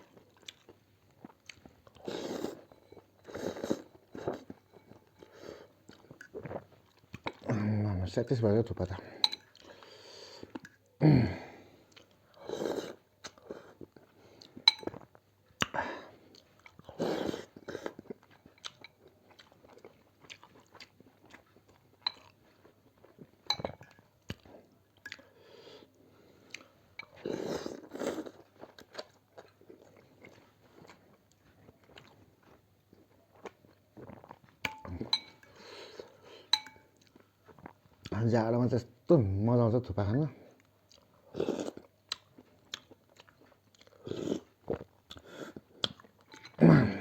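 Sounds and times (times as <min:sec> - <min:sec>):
person chewing food: 0:00.0 - 0:07.5, 0:08.8 - 0:11.0, 0:11.7 - 0:38.2, 0:40.5 - 0:47.0.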